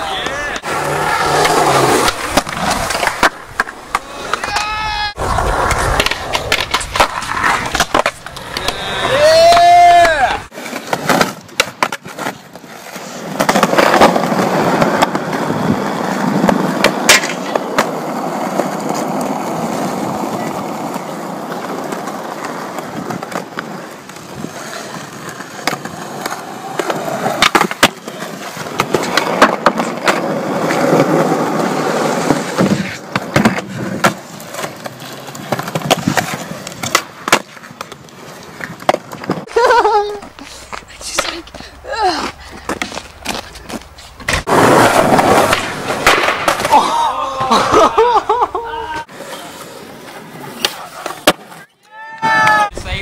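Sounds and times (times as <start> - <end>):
skateboard clacking on ground: 0.0 - 53.0
skateboard wheels rolling on concrete: 0.0 - 53.0.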